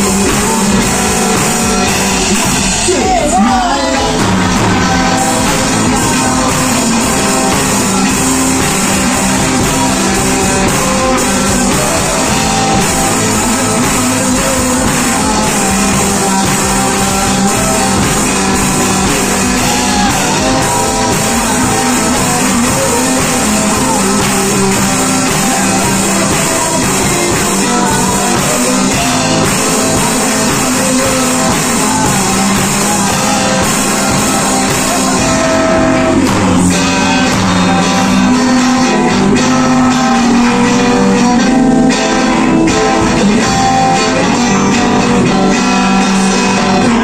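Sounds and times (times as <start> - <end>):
drum kit: 0.0 - 47.0
electric bass: 0.0 - 47.0
electric guitars: 0.0 - 47.0.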